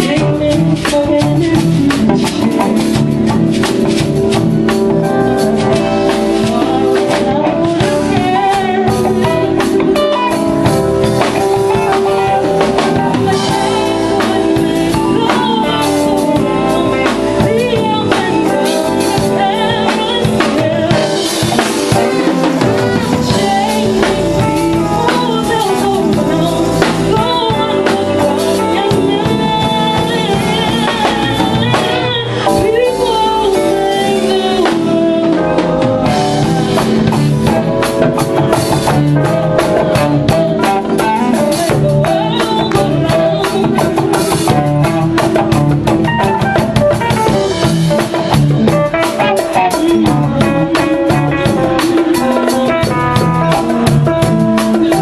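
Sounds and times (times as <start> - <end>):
band playing slow soul song: 0.0 - 55.0
person singing: 0.0 - 55.0.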